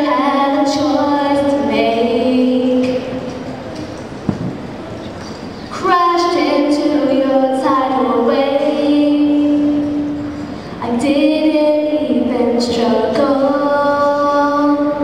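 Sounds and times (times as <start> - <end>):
girl singing into a microphone: 0.0 - 3.2, 5.7 - 15.0.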